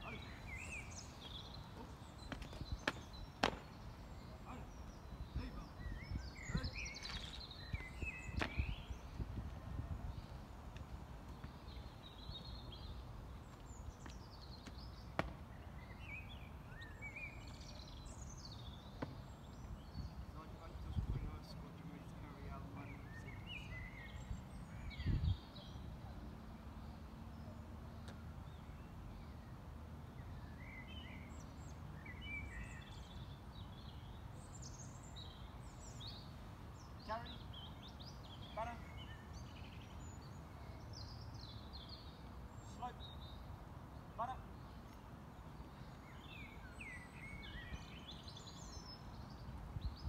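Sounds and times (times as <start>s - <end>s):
faint birdsong chirping: 0.0s - 50.0s.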